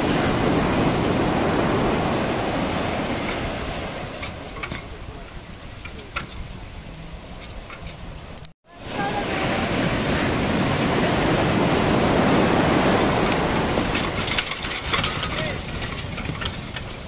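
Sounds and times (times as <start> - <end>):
surf washing against a hull: 0.0 - 17.0.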